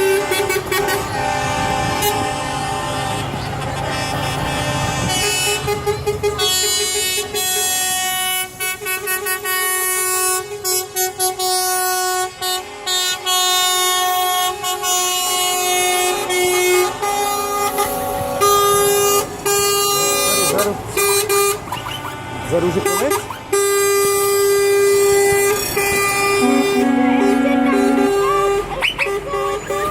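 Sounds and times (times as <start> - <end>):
low engine rumble: 0.0 - 29.9
truck air horns blowing: 0.0 - 29.9.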